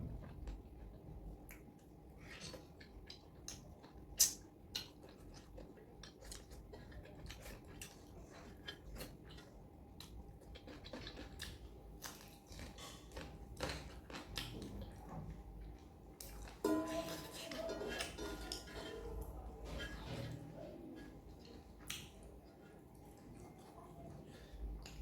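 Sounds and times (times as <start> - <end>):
person chewing: 0.3 - 25.0.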